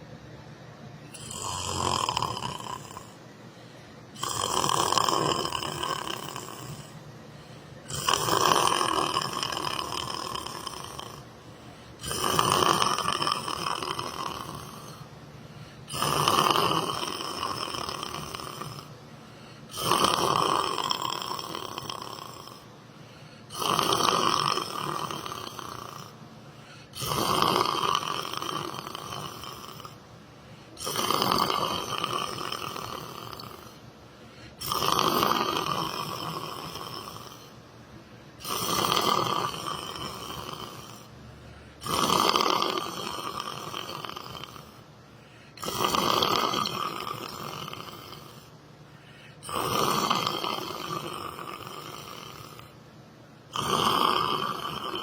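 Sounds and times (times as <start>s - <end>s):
person snoring: 1.1s - 37.6s, 38.4s - 52.8s, 53.5s - 55.0s.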